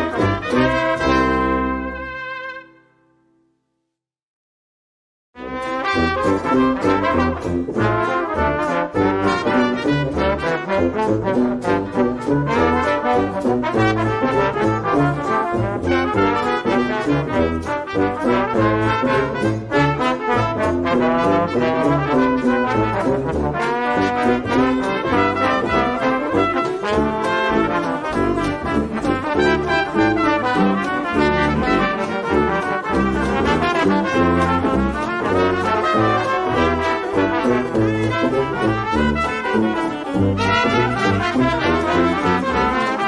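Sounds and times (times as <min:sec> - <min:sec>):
brass horns playing music: 0:00.0 - 0:03.0, 0:05.4 - 0:43.0.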